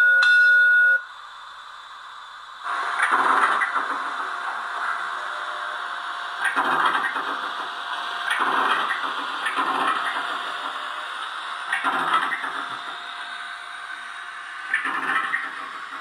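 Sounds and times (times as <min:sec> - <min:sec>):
steady steam hiss: 0:01.0 - 0:16.0
steam locomotive chuffs: 0:02.6 - 0:16.0.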